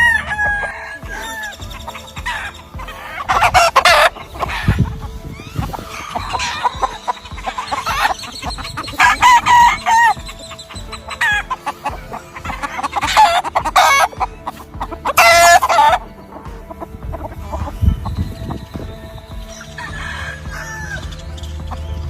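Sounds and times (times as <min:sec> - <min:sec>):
chickens clucking: 0:00.0 - 0:22.0
roosters crowing: 0:00.0 - 0:22.0.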